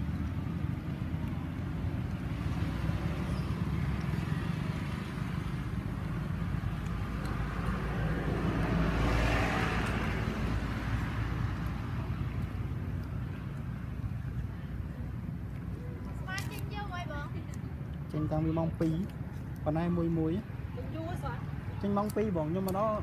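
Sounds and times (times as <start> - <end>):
road vehicle passing: 0.0 - 23.0.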